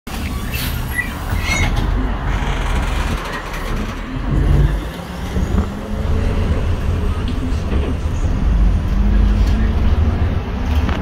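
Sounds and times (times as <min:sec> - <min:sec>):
bus engine running: 0:00.1 - 0:11.0.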